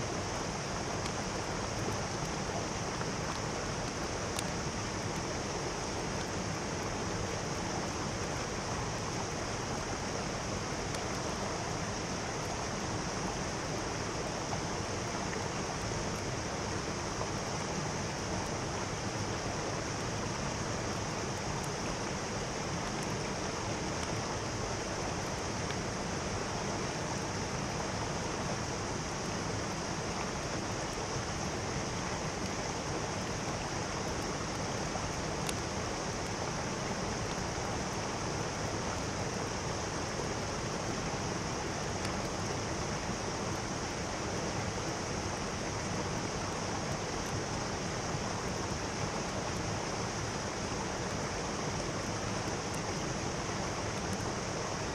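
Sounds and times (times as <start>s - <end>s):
stream rushing: 0.0s - 54.9s.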